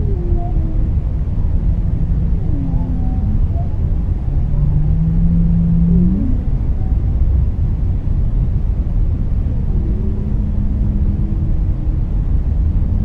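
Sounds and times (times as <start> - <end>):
whale moans: 0.0 - 7.4, 9.4 - 13.0
steady low rumble: 0.0 - 13.0.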